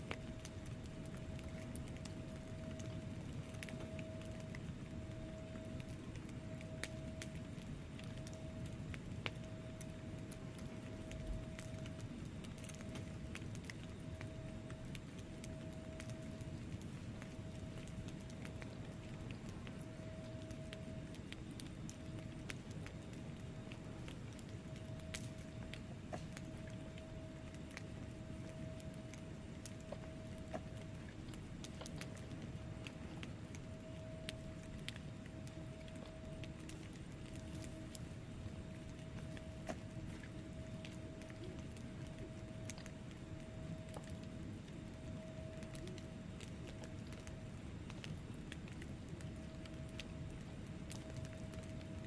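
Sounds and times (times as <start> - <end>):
faint steady tone: 0.0 - 52.0
low rumble of flames: 0.0 - 52.0
wood fire crackling: 0.0 - 52.0.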